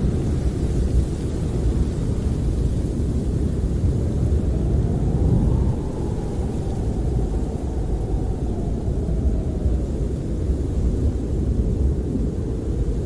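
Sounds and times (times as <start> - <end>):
faint wind howl: 0.0 - 13.0
wind rumbling against camper: 0.0 - 13.0.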